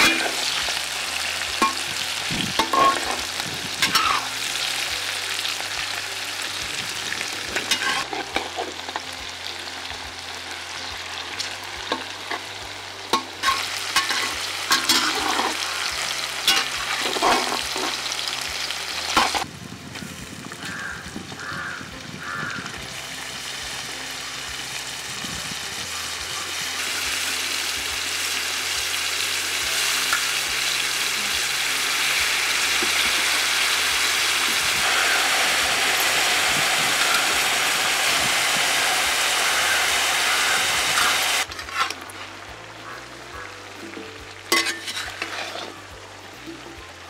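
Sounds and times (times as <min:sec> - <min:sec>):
vegetables sizzling in oil: 0:00.0 - 0:47.0.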